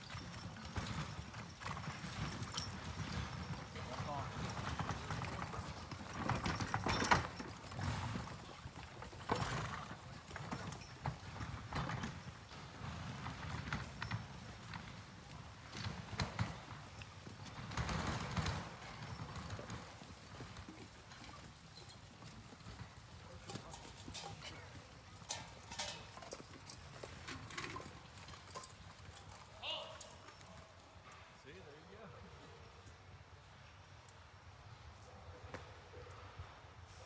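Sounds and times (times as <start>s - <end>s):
horse-drawn carriage moving: 0.0s - 37.0s
horses' hooves on forest trail: 0.0s - 37.0s.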